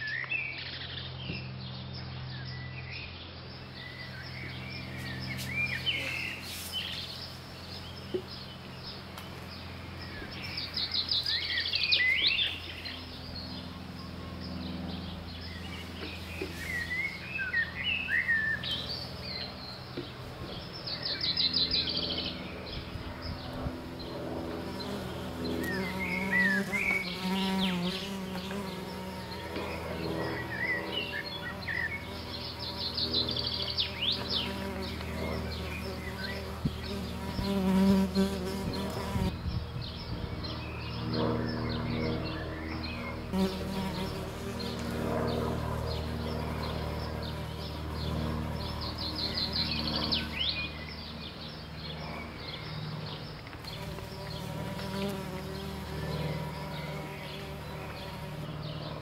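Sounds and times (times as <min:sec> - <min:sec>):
steady buzzing drone: 0:00.0 - 0:59.0.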